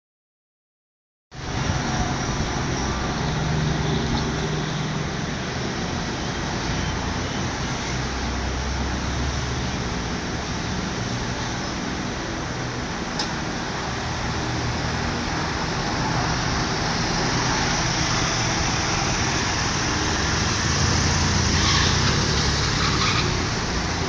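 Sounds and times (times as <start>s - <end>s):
road and tyre noise: 1.3s - 24.0s.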